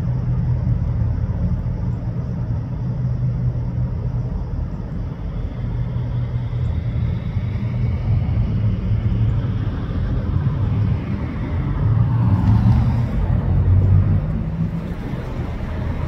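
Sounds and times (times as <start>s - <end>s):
car approaching: 0.0s - 16.0s
passing cars rumbling: 0.0s - 16.0s.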